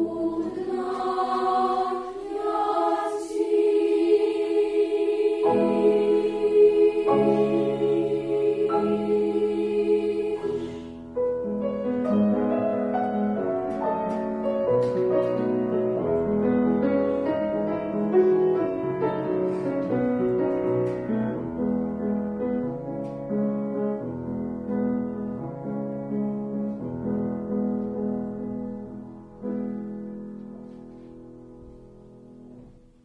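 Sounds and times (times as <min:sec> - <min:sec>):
slow classical piano: 0:00.0 - 0:33.0.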